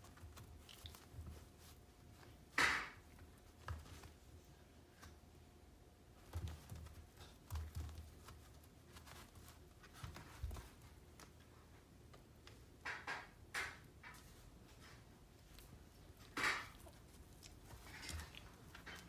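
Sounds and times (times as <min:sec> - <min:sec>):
puppies scuffling on carpet: 0:00.0 - 0:05.0, 0:06.1 - 0:12.6, 0:14.2 - 0:19.0.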